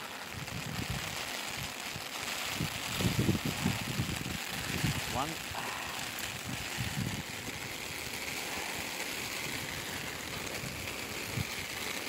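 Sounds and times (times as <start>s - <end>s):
heavy rain on umbrella: 0.0s - 12.0s.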